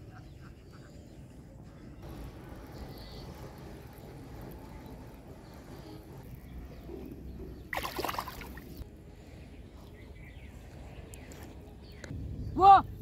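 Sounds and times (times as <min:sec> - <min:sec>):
riverside ambience: 0:00.0 - 0:13.0.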